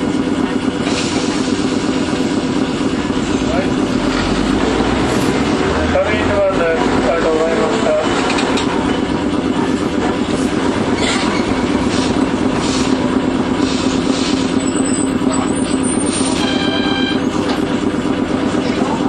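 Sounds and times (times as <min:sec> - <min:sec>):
streetcar motor and gear hum: 0:00.0 - 0:19.0
wheels clacking over rails: 0:00.0 - 0:19.0.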